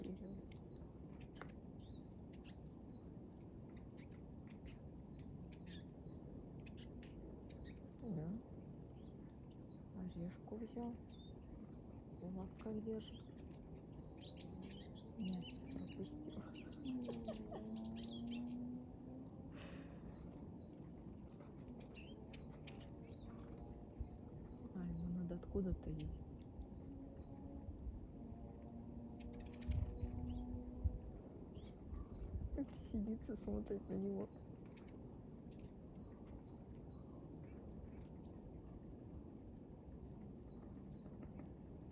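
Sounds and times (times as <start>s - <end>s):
faint low rumble: 0.0s - 41.9s
small birds chirping: 0.0s - 41.9s.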